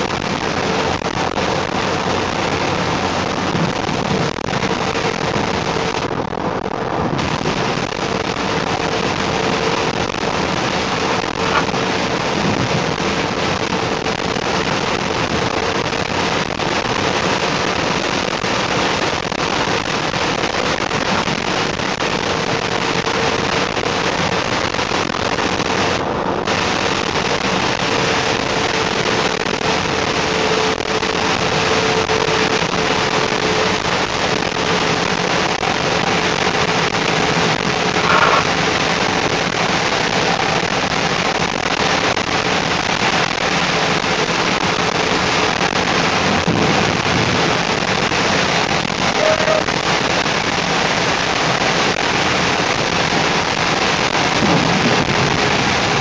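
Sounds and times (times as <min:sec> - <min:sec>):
heavy rain hissing: 0:00.0 - 0:56.0
steady hum: 0:00.0 - 0:56.0.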